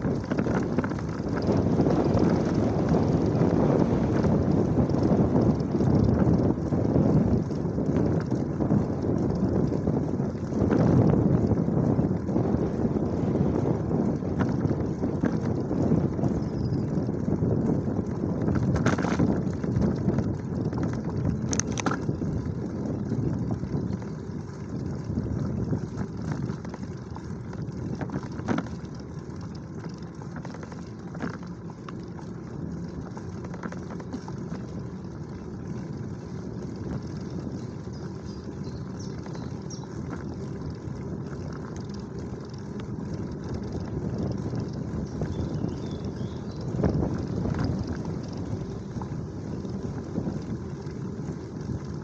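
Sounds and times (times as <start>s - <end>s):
faint clicks and rattles: 0.0s - 52.0s
tyres rolling on asphalt: 0.0s - 52.0s
wind buffeting microphone: 0.0s - 52.0s.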